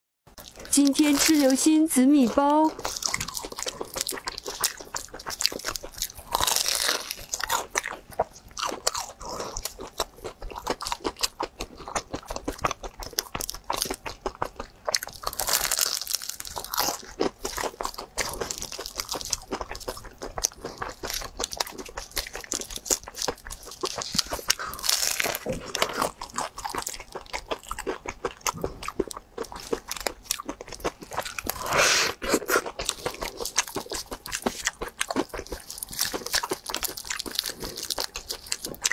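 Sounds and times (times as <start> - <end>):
chewing: 0.3 - 38.9
crunching bites of fried pastry: 2.7 - 38.9.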